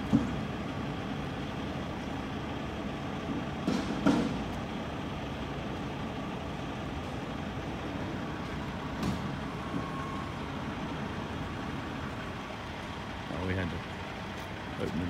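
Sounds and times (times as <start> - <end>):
semi truck engine running: 0.0 - 15.0.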